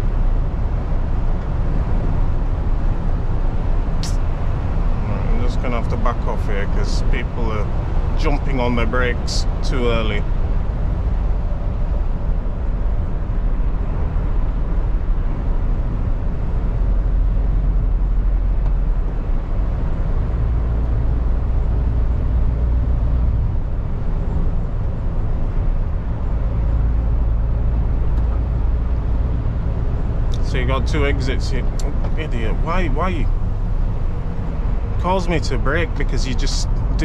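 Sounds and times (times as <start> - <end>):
lorry engine drone: 0.0 - 37.0.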